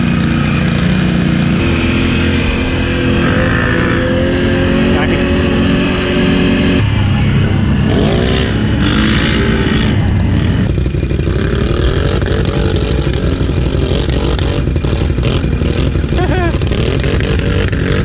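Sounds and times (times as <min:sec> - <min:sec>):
atv engines revving: 0:00.0 - 0:18.0.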